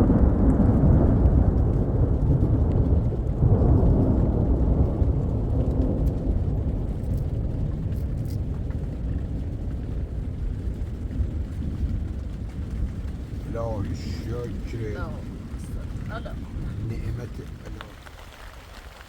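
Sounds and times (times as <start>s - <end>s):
rolling thunder: 0.0s - 19.0s.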